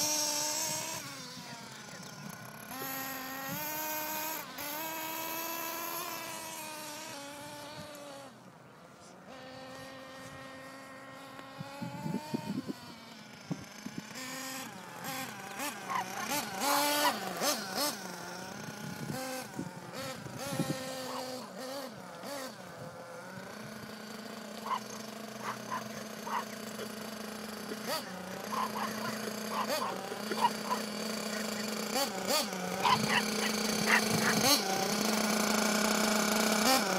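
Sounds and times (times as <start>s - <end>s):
two-stroke engine buzzing: 0.0s - 36.9s.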